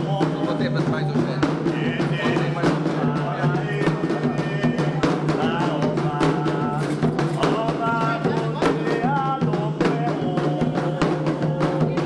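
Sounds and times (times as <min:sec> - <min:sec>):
group singing: 0:00.0 - 0:12.0
hand drums playing rhythm: 0:00.0 - 0:12.0.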